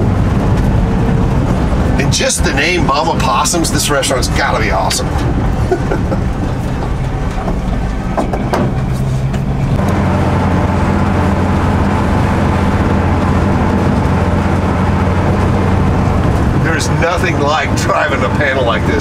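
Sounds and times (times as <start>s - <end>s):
van engine droning: 0.0s - 19.0s.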